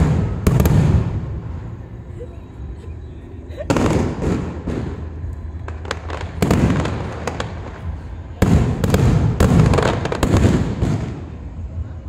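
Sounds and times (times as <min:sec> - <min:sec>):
fireworks booming: 0:00.0 - 0:02.1, 0:03.7 - 0:12.0
fireworks crackling and popping: 0:00.0 - 0:02.1, 0:03.6 - 0:12.0.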